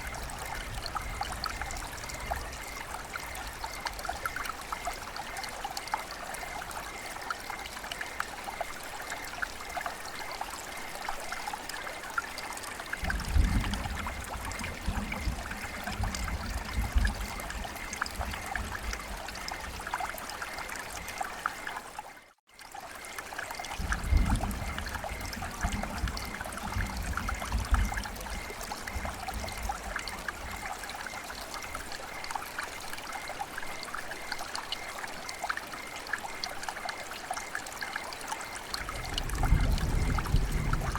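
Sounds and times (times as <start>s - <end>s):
steady rain: 0.0s - 40.9s
trickling water drips: 0.0s - 40.9s.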